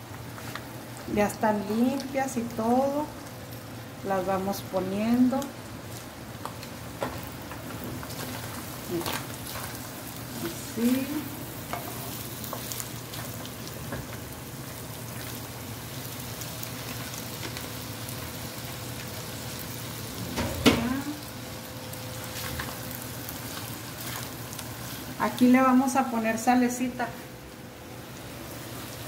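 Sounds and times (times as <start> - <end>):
food sizzling in a frying pan: 0.0 - 29.0.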